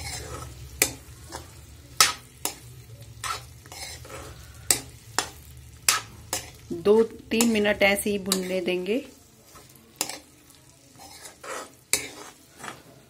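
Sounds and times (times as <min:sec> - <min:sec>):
spatula scraping a metal pan: 0:00.0 - 0:06.7, 0:07.4 - 0:08.8, 0:09.5 - 0:13.0
light sizzle: 0:00.0 - 0:13.0.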